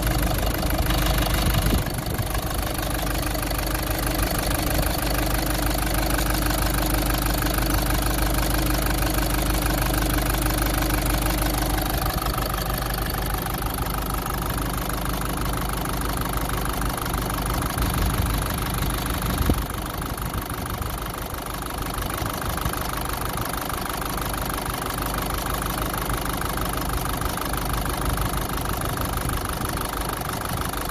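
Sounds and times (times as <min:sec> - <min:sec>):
car engine idling: 0:00.0 - 0:30.9
engine knock: 0:00.0 - 0:30.9.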